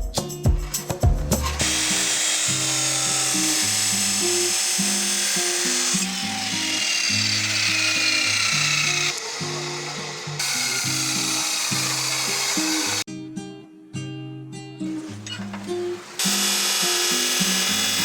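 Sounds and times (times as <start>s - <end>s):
guitar music: 0.0s - 18.0s
power tool whining: 1.4s - 13.1s, 14.9s - 18.0s.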